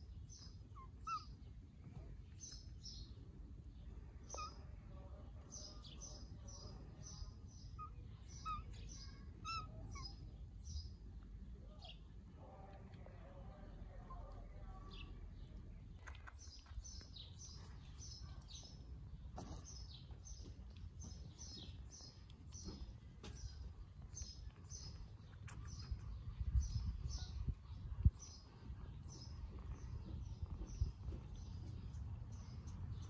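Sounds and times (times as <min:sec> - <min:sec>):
small bird chirping: 0:00.0 - 0:12.1, 0:13.5 - 0:33.0.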